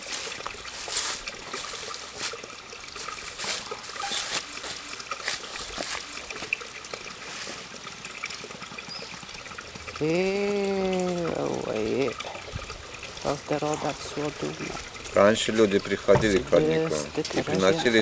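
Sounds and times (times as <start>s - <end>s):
spring water trickling and splashing: 0.0s - 18.0s.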